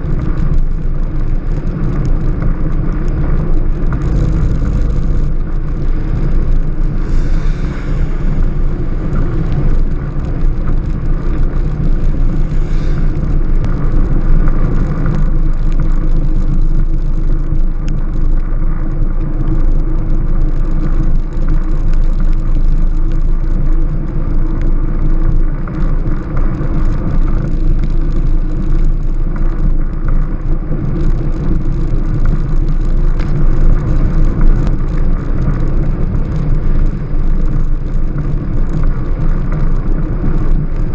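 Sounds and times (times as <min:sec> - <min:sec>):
road and wind rumble: 0:00.0 - 0:40.9.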